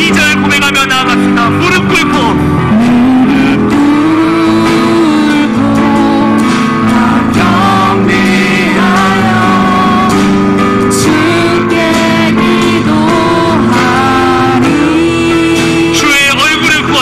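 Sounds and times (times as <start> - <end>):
acoustic guitar: 0.0 - 17.0
group singing worship song: 2.6 - 17.0.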